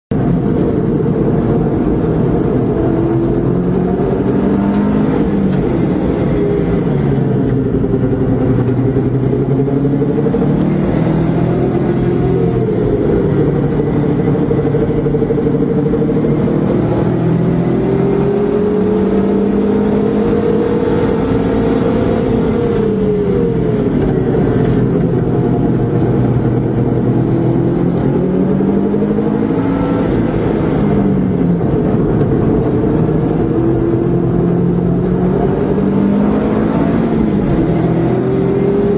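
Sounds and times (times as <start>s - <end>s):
car engine revving through gears: 0.1s - 38.9s.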